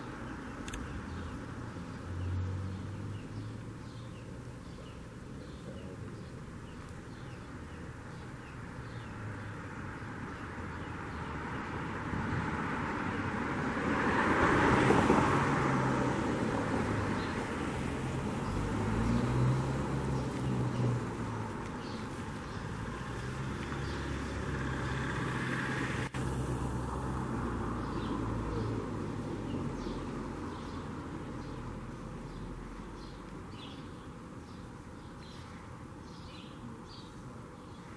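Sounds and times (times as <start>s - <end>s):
vehicle passing: 0.0s - 5.0s, 7.8s - 33.7s.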